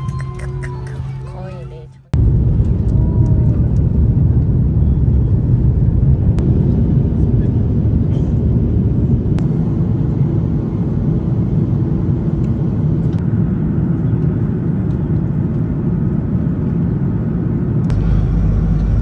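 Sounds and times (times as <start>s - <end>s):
jet airliner cabin rumble: 0.0s - 19.0s.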